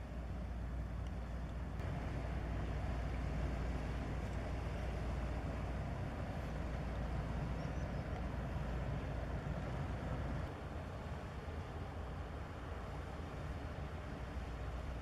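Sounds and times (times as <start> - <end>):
ship diesel engine rumble: 0.0 - 15.0.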